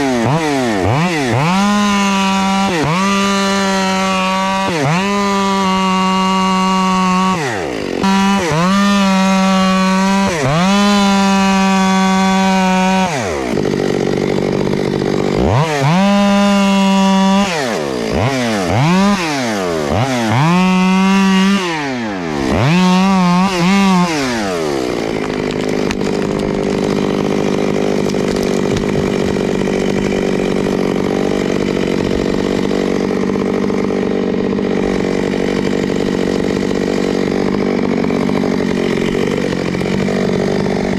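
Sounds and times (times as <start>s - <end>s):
chainsaw cutting tree: 0.0s - 40.9s.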